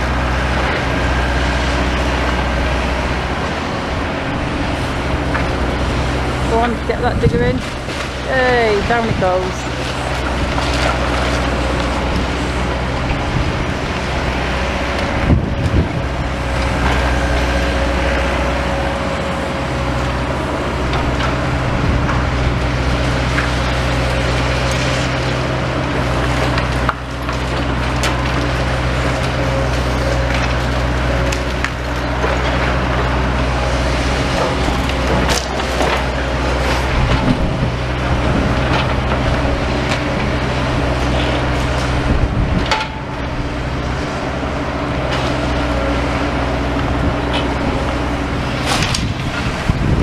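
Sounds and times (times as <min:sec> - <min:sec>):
excavator diesel engine running: 0:00.0 - 0:50.0
timber and rubble crunching: 0:00.0 - 0:50.0.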